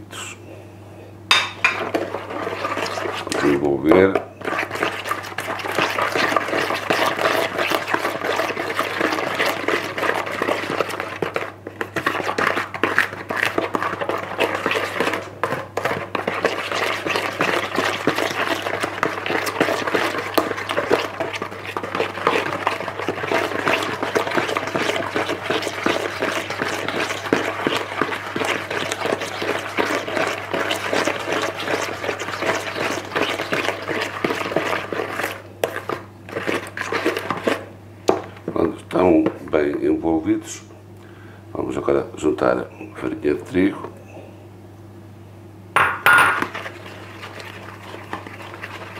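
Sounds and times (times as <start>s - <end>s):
electric hand mixer churning batter: 1.7s - 39.1s, 45.8s - 48.9s.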